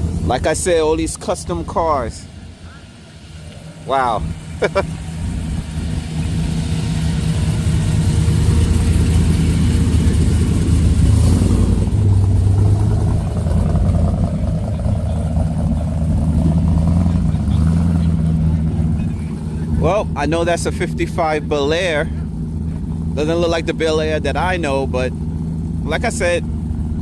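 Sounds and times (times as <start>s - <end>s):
car engine rumbling past: 0.0s - 27.0s.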